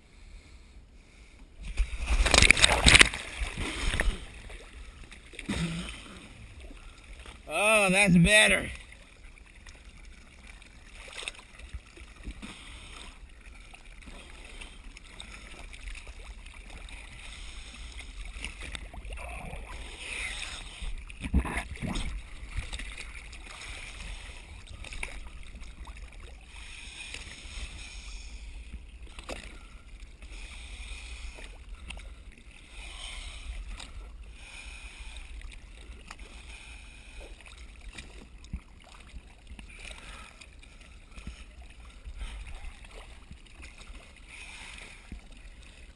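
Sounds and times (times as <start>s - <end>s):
boat engine rumble: 0.0s - 45.9s.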